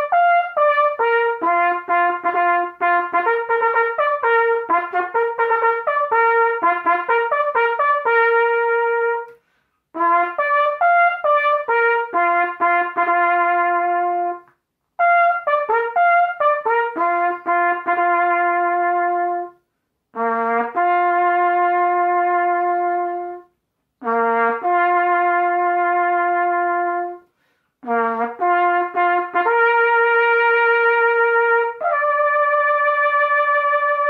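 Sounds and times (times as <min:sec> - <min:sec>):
solo cornet bugle call: 0:00.0 - 0:09.4, 0:10.0 - 0:19.6, 0:20.2 - 0:34.0.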